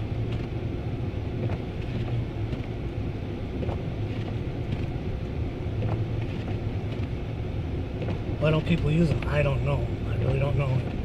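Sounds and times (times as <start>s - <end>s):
car engine humming: 0.0s - 11.0s
tyre and road rumble: 0.0s - 11.0s.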